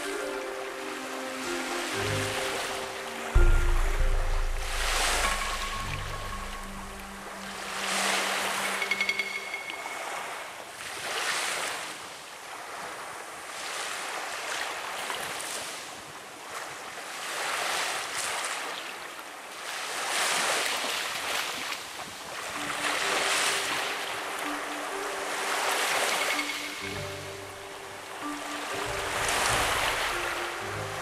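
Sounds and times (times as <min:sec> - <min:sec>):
sea waves washing onto shore: 0:00.0 - 0:31.0
wind: 0:00.0 - 0:31.0.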